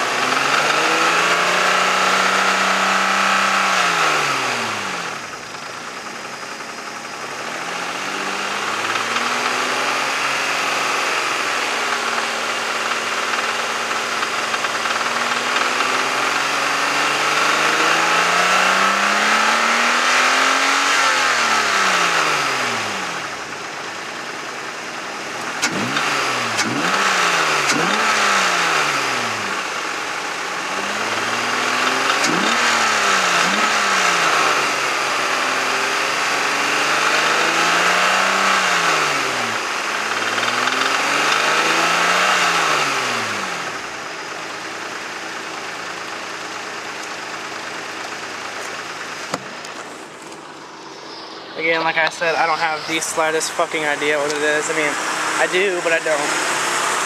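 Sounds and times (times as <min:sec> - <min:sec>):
engine knocking: 0:00.0 - 0:50.9
car engine revving: 0:00.0 - 0:57.0.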